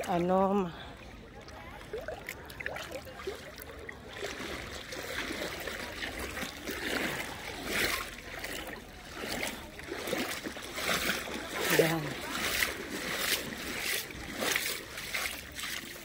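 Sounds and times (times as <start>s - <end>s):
shallow water lapping: 0.0s - 16.0s.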